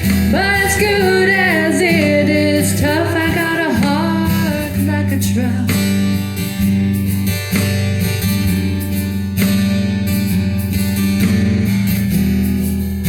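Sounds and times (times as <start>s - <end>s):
low bass line: 0.0s - 13.0s
strummed guitar chords: 0.0s - 13.0s.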